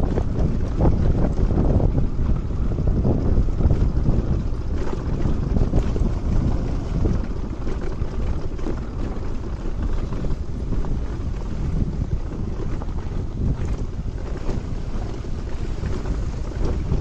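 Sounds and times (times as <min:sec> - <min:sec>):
motorcycle running: 0:00.0 - 0:17.0
road noise: 0:00.0 - 0:17.0
wind buffeting microphone: 0:00.0 - 0:17.0.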